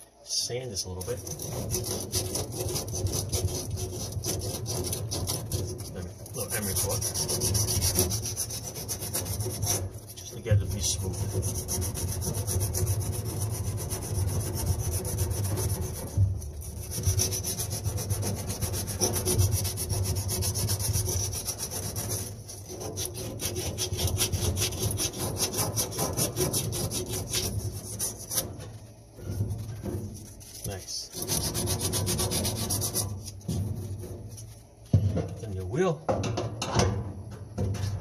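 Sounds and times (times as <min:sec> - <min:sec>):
emery cloth rubbing on metal: 0:00.3 - 0:34.8.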